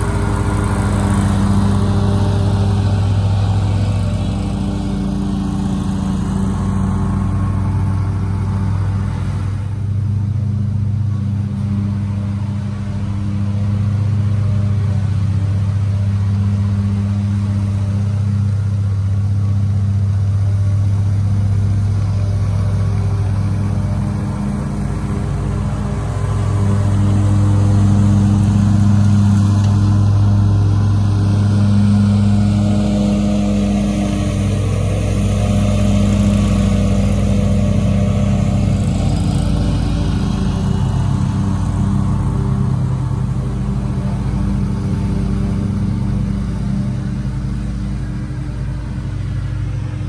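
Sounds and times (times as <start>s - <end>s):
lawn mower engine running: 0.0s - 50.0s.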